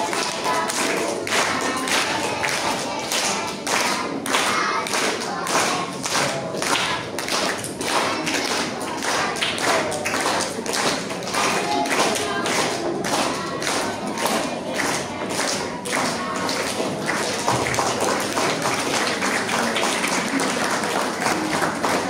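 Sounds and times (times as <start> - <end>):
group of voices singing: 0.0 - 22.0
sharp claps: 0.0 - 22.0.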